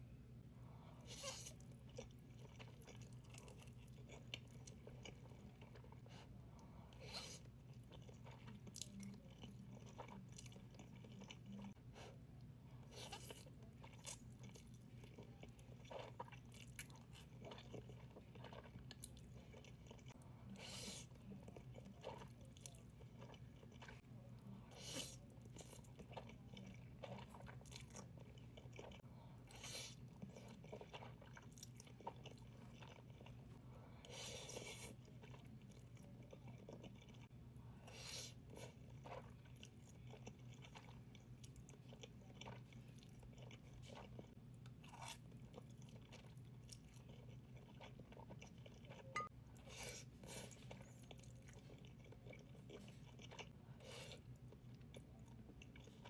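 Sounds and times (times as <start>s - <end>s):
low steady hum: 0.0s - 56.0s
person chewing noodles: 1.0s - 56.0s.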